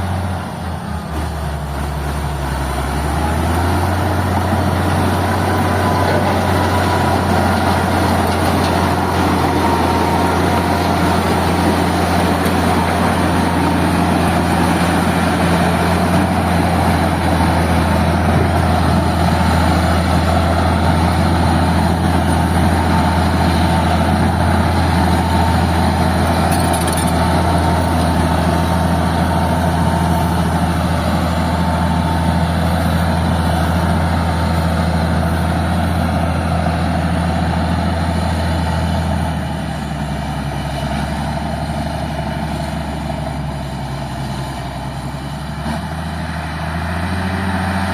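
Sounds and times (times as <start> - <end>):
diesel dozer engine rumbling: 0.0 - 47.9.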